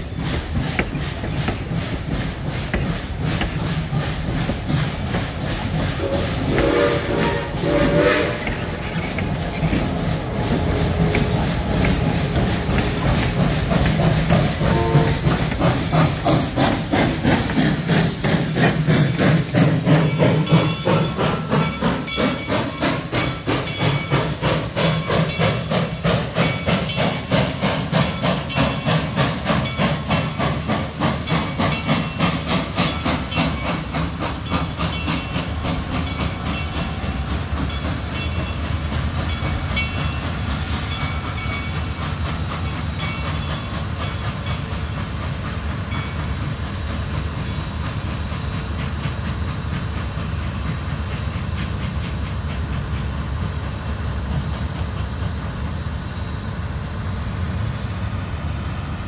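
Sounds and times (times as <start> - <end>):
steam hissing: 0.0 - 59.0
steam locomotive exhaust chuffs: 0.0 - 59.0.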